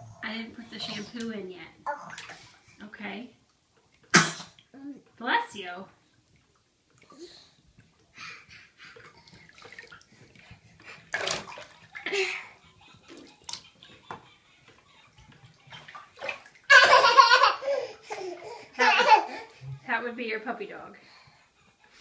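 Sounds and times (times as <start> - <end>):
bathwater splashing: 0.3 - 2.8, 3.4 - 20.1.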